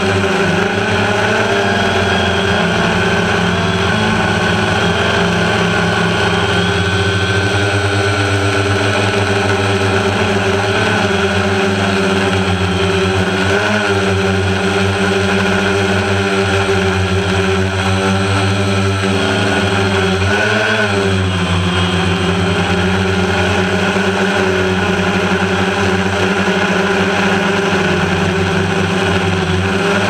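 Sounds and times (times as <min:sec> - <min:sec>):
drone propellers humming: 0:00.0 - 0:30.0.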